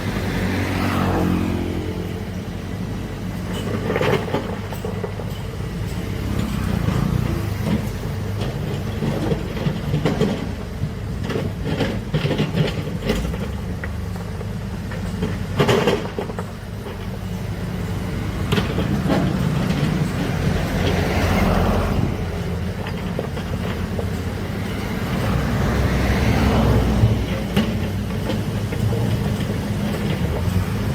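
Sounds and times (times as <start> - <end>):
diesel engine running under load: 0.0 - 30.9
machinery knocks and clanks: 0.6 - 30.9.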